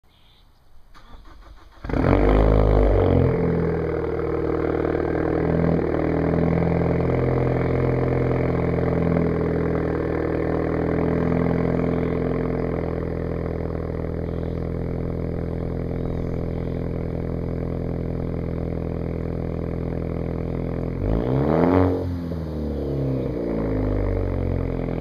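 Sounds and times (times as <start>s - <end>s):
car engine starting and idling: 0.8s - 25.0s.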